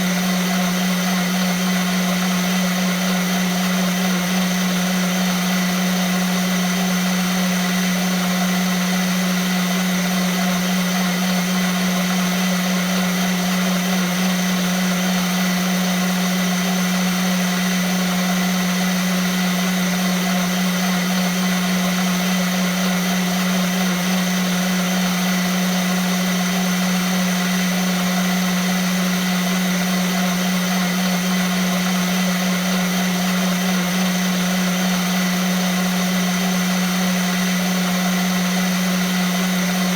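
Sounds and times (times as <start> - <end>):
blender motor running: 0.0 - 39.9.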